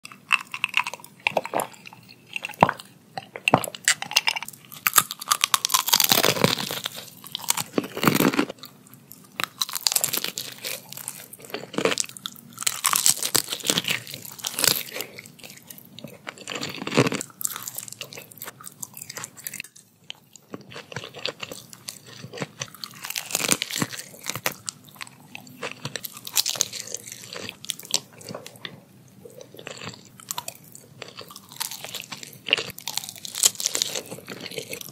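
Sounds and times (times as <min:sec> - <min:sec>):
crunching crispy food: 0:00.1 - 0:02.8, 0:03.8 - 0:34.9.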